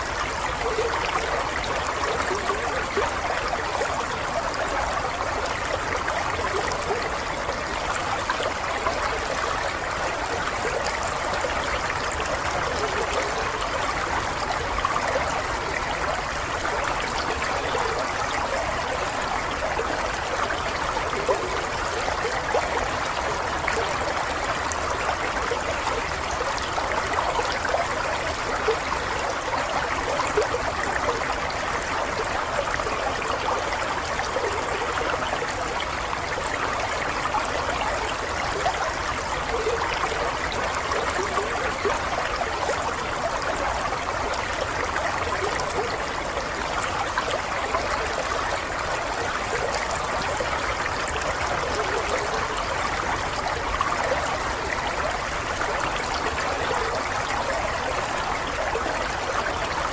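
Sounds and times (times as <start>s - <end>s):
water running with gurgles: 0.0s - 59.9s.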